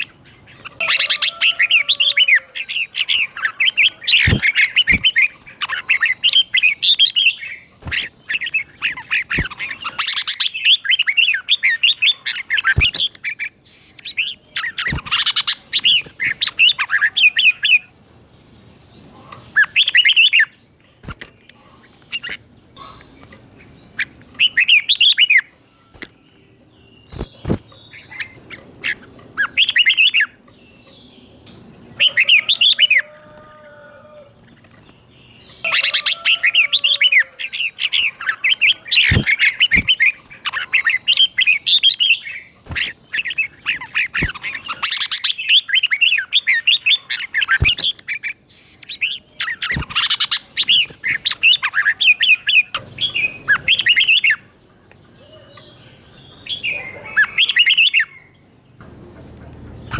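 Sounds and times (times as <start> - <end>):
bird singing warbled phrases: 0.0 - 59.9.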